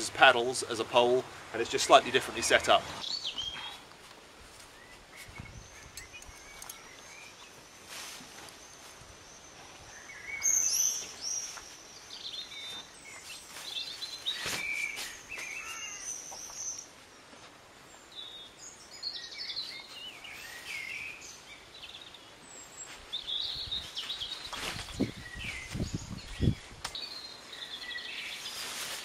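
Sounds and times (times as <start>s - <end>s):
birds chirping: 0.0s - 4.0s, 4.6s - 28.9s.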